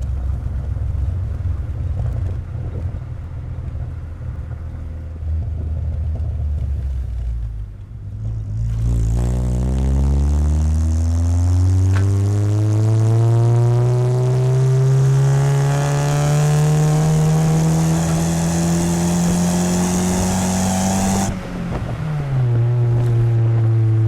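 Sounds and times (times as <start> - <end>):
car exhaust accelerating: 0.0 - 24.0.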